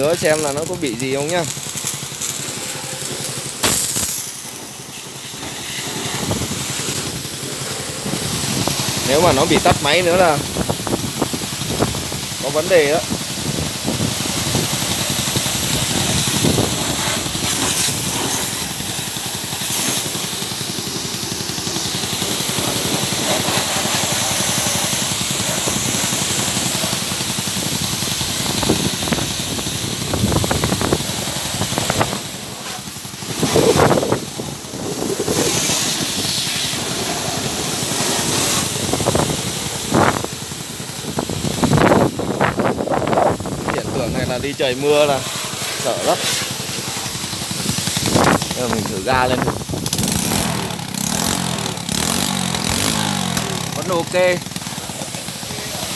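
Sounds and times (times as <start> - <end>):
motorcycle engine idling: 0.0 - 55.9
water jet hissing: 0.0 - 55.9.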